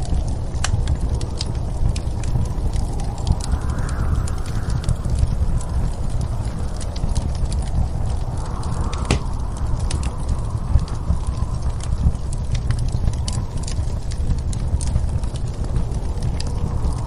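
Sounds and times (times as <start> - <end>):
low rumble of wind: 0.0 - 17.0
wood fire crackling and popping: 0.0 - 17.0.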